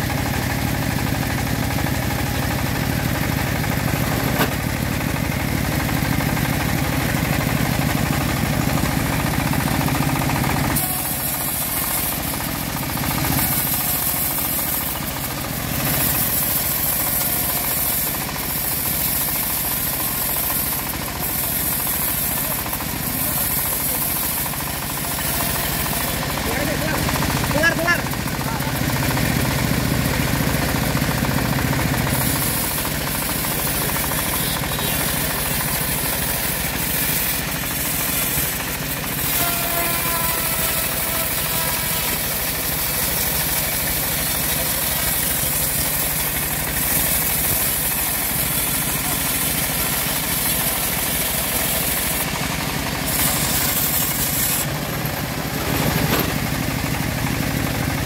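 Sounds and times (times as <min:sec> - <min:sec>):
bandsaw mill sawing log: 0:00.0 - 0:58.0.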